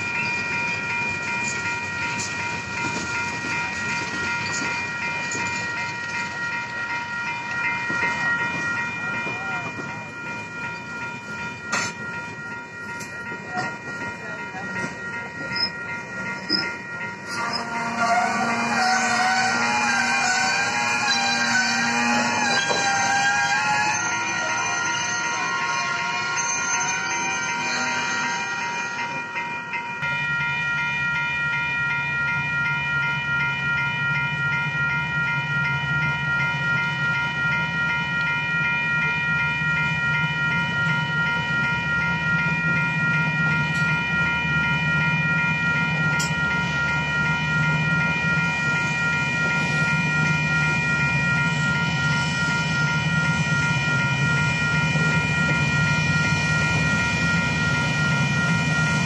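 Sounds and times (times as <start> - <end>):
crossing warning bell ringing: 0.0 - 59.0
freight train rumbling: 0.0 - 59.0.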